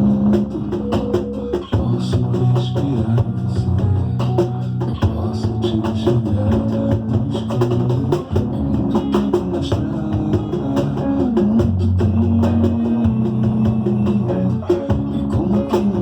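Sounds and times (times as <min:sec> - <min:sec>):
low bass notes: 0:00.0 - 0:16.0
samba percussion drumming: 0:00.0 - 0:16.0.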